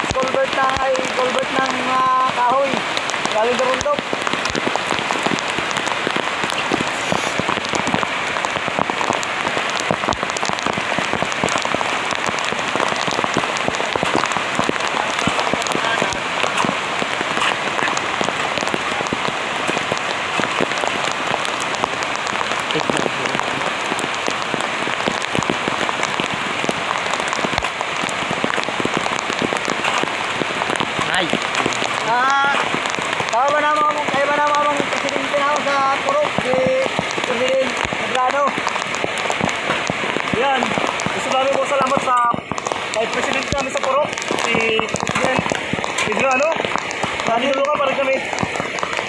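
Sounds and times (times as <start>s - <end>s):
heavy rain falling: 0.0s - 49.0s
raindrops pattering on surfaces: 0.0s - 49.0s.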